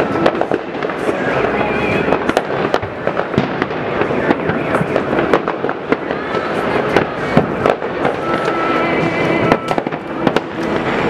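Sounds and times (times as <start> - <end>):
fireworks and firecrackers banging: 0.0 - 11.0.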